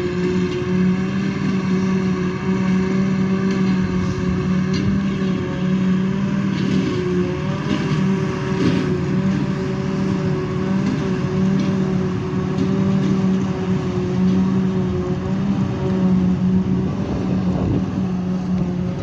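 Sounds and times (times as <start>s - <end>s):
farm machinery engines droning: 0.0s - 19.0s.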